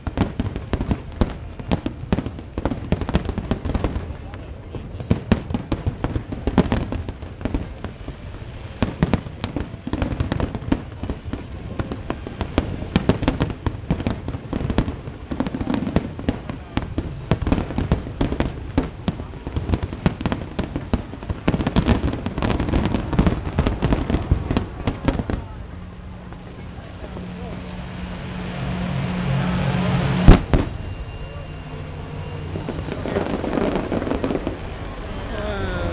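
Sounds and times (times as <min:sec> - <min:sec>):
fireworks bangs and crackles: 0:00.0 - 0:35.9.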